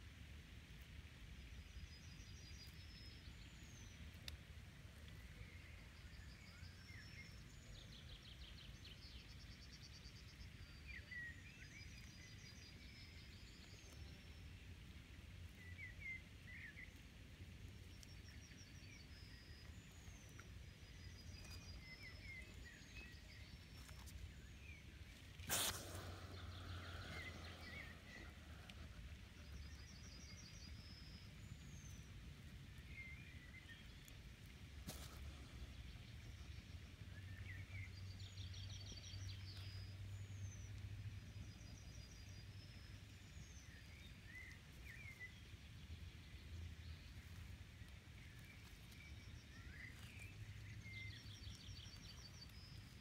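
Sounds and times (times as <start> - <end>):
faint birdsong: 1.2 - 53.0
low outdoor rumble: 10.4 - 53.0.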